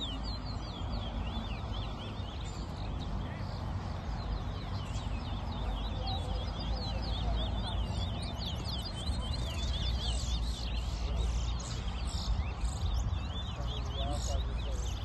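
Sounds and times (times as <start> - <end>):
finches chirping and whistling: 0.0 - 15.0.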